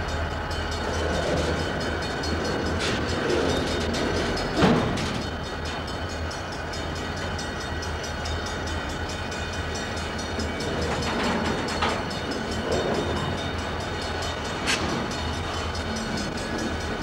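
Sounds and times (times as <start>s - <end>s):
freight train rumbling: 0.0s - 17.0s
train knocks and creaks: 0.0s - 17.0s.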